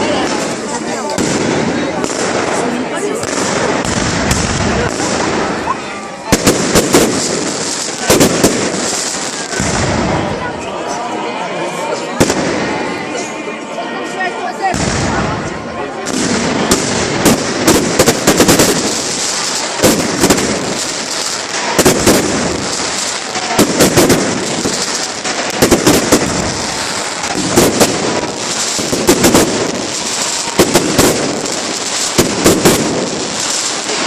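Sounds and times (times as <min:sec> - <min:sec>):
fireworks cracks and bangs: 0:00.0 - 0:13.5, 0:14.6 - 0:34.0
fireworks crackle: 0:00.0 - 0:34.0.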